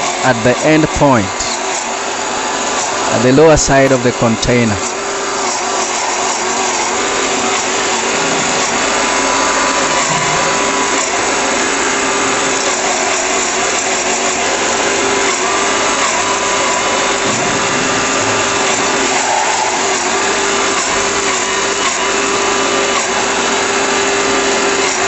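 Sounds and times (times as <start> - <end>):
electric grinder whirring: 0.0 - 25.0.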